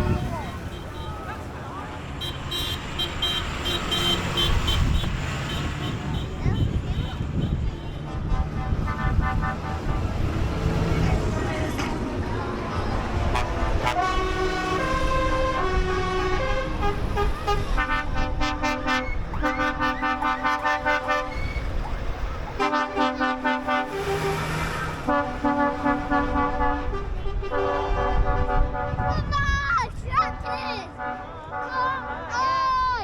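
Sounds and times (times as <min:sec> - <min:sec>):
truck musical horn: 0:00.0 - 0:01.5, 0:02.2 - 0:11.8, 0:13.0 - 0:29.5, 0:30.3 - 0:32.5.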